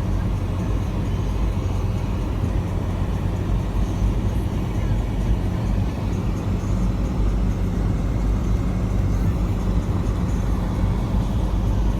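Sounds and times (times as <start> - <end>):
engine low rumble: 0.0 - 11.9.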